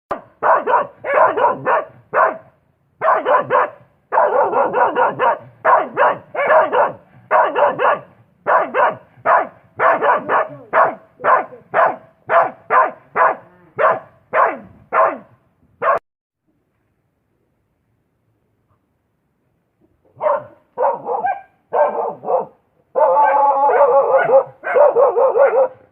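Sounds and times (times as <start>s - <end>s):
dog barking: 0.1s - 16.0s, 20.2s - 25.9s.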